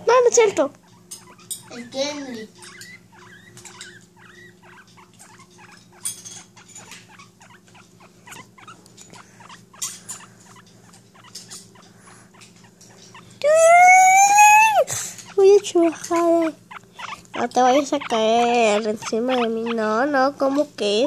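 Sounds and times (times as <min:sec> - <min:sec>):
guinea pig squeaking: 0:00.0 - 0:21.0.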